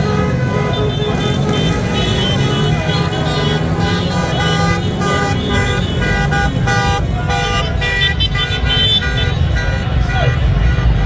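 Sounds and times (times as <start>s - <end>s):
car horns honking: 0.0s - 11.0s
street traffic rumble: 0.0s - 11.0s.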